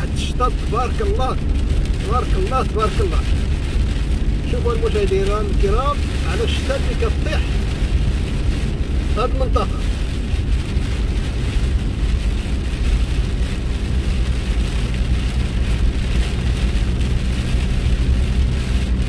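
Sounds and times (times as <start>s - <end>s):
car engine and tyre noise: 0.0s - 19.0s
rain and road spray hiss: 0.0s - 19.0s.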